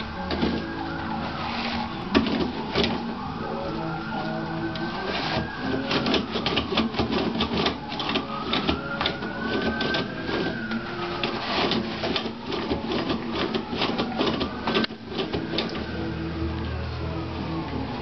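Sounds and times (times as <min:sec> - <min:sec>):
toilet roll spinning and rattling: 0:00.0 - 0:03.3, 0:04.9 - 0:16.0
paper rustling: 0:00.0 - 0:15.9.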